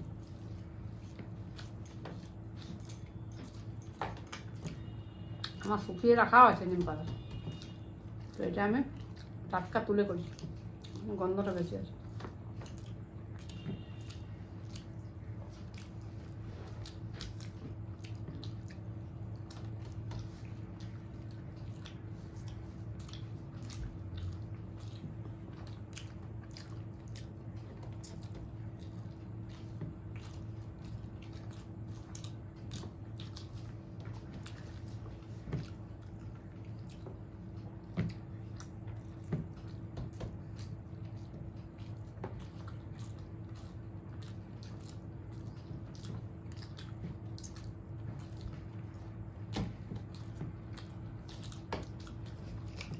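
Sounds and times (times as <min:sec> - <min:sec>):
person chewing food: 0:00.0 - 0:05.8, 0:07.2 - 0:52.9
steady low hum: 0:00.0 - 0:52.9.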